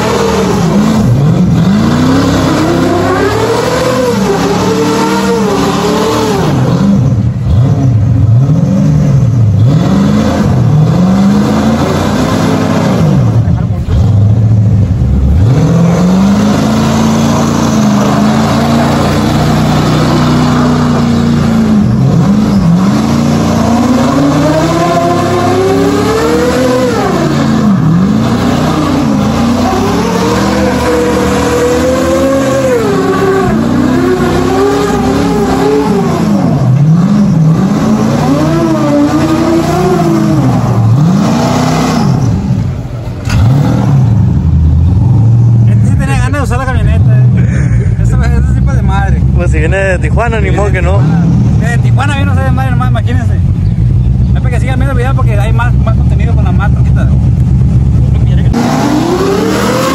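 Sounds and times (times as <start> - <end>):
engine revving hard: 0.0 - 53.3, 57.9 - 59.9.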